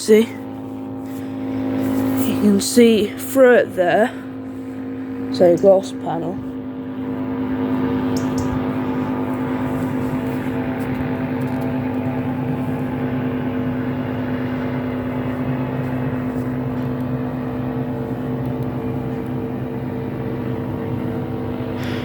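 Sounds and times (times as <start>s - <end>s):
machine engine droning: 0.0s - 22.0s.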